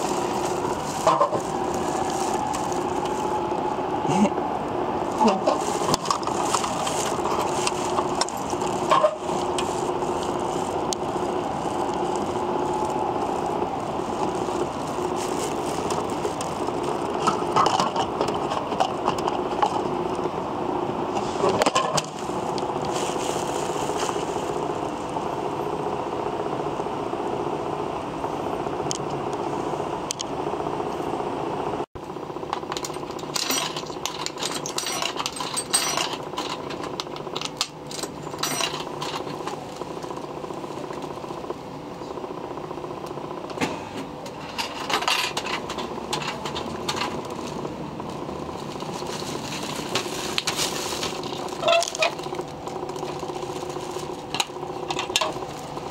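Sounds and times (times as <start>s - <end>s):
mechanical hum: 0.0s - 55.9s.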